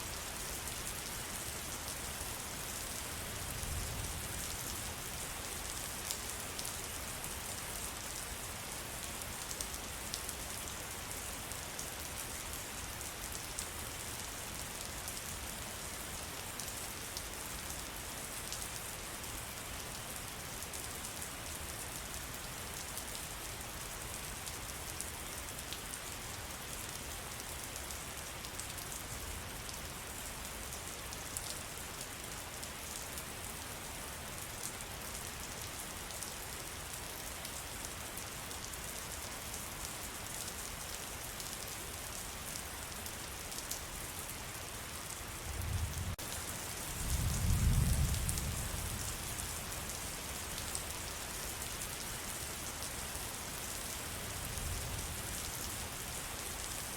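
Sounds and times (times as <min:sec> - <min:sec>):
rain falling in forest: 0:00.0 - 0:56.9.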